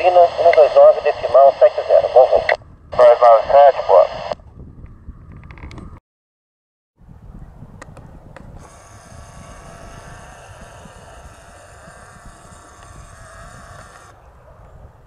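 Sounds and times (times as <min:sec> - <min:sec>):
aircraft engine whine: 0:00.0 - 0:06.0, 0:07.1 - 0:14.8.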